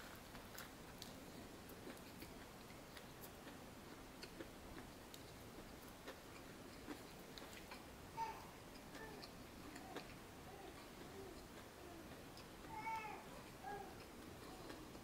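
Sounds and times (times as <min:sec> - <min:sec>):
chewing crusty bread: 0:00.0 - 0:08.0, 0:08.6 - 0:15.0.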